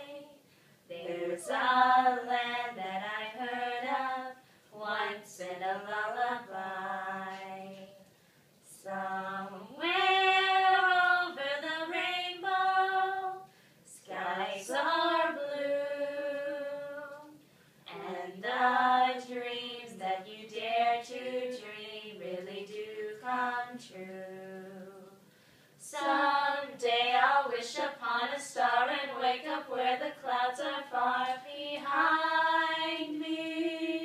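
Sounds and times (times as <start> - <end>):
girls singing a cappella: 0.0 - 34.0.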